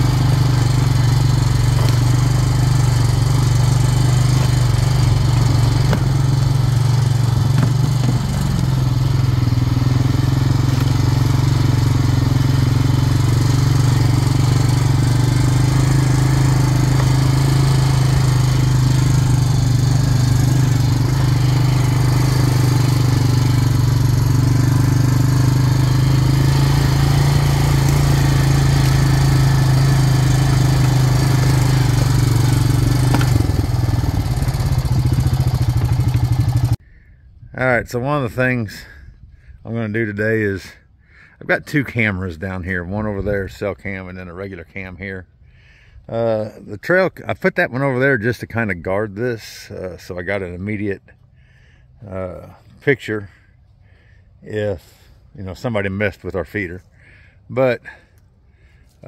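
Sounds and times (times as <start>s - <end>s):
atv engine running: 0.0s - 36.8s, 47.3s - 59.0s.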